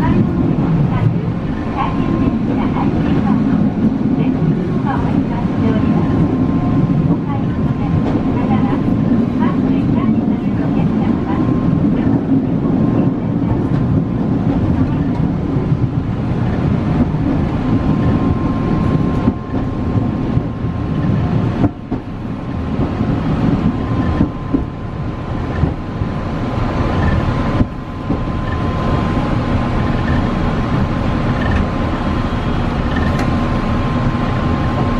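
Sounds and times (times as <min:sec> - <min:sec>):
streetcar wheels rumbling: 0:00.0 - 0:34.9.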